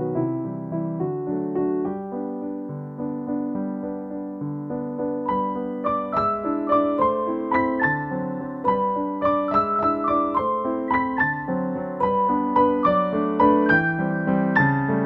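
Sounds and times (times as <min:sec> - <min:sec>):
held keyboard chords: 0:00.0 - 0:15.0
keyboard melody: 0:00.0 - 0:15.0.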